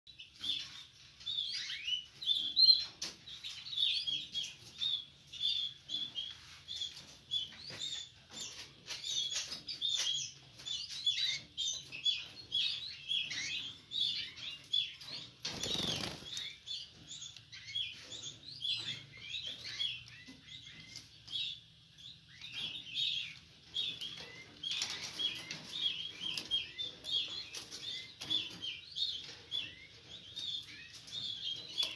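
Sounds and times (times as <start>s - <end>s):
canaries chirping and singing: 0.1s - 31.9s.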